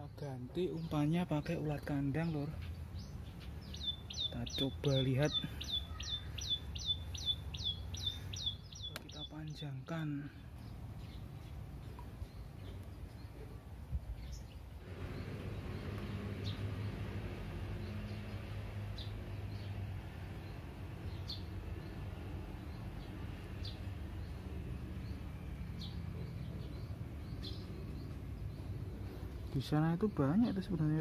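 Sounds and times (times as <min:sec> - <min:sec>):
steady low hum: 0:00.0 - 0:30.3.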